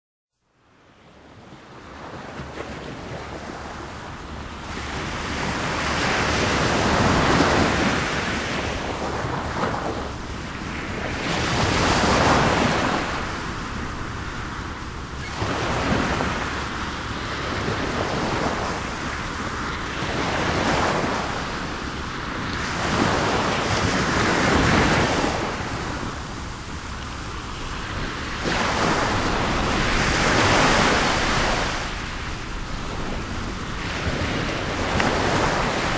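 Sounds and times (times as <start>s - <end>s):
waves washing on shore: 0.9s - 35.9s.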